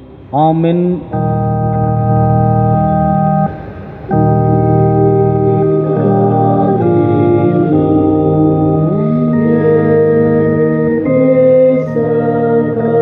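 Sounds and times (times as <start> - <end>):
organ playing held chords: 0.0 - 13.0.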